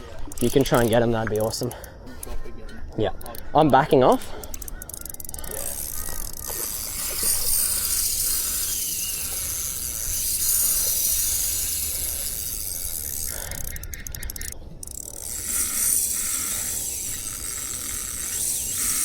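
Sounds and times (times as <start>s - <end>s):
fishing reel drag buzzing: 0.0s - 2.4s, 3.0s - 19.0s.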